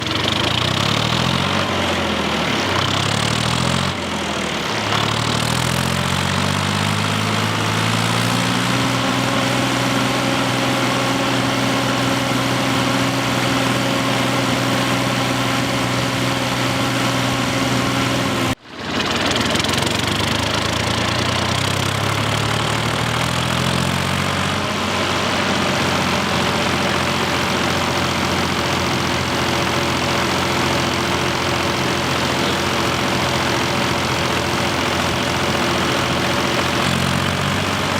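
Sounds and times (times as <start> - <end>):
tractor engine revving: 0.0 - 37.9.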